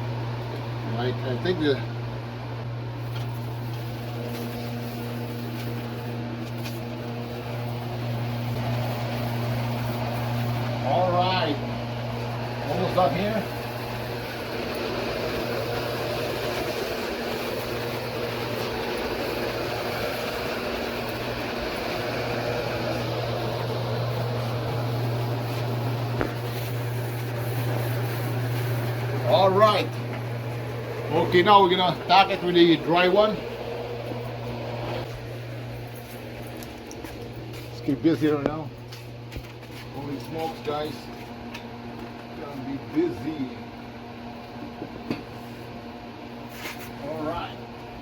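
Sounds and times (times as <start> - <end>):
motor or fan humming: 0.0 - 48.0.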